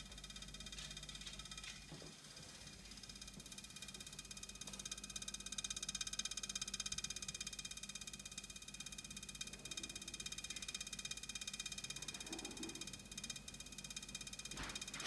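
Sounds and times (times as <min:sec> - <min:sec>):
refrigerator rattling buzz: 0:00.0 - 0:15.0.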